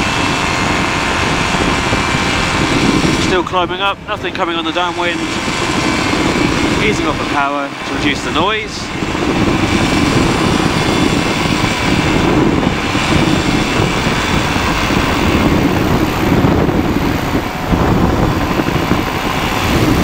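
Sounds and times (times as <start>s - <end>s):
microlight engine and propeller: 0.0s - 20.0s
wind rushing over microphone: 0.0s - 20.0s.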